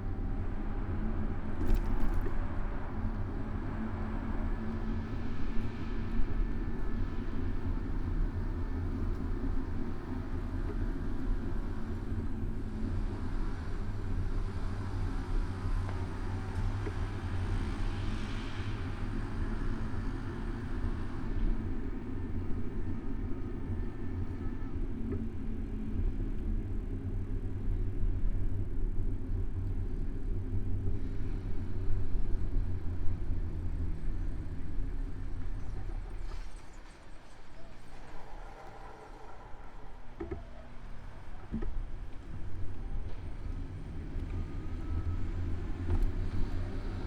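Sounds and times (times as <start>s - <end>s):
bicycle riding rumble: 0.0s - 47.0s.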